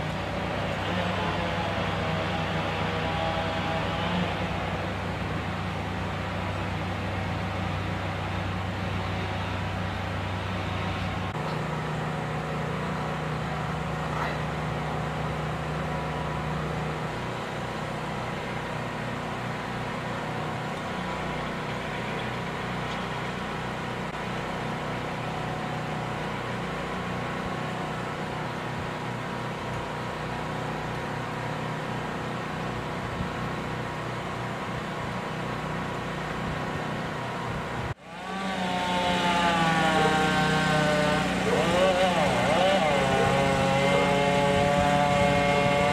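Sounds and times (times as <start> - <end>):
louder engine with wavering pitch: 0.0 - 45.9
machinery engine running: 0.0 - 45.9.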